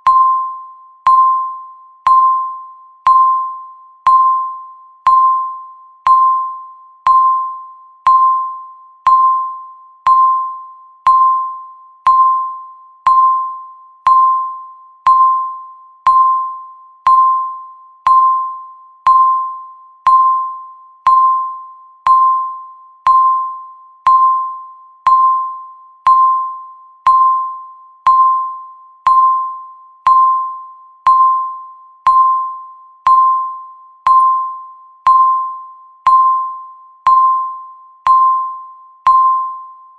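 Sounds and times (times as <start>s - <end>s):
timer electronic beeps: 0.0s - 39.9s.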